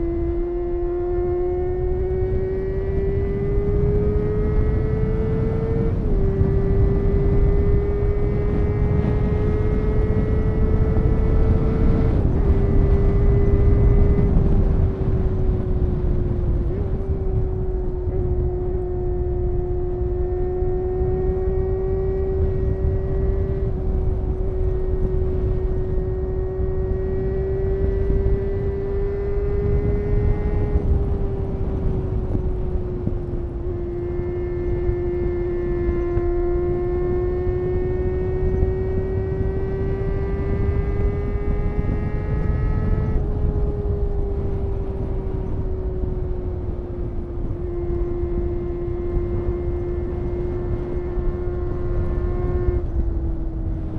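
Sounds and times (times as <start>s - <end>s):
motorcycle engine at high revs: 0.0s - 53.9s
wind rush: 0.0s - 53.9s.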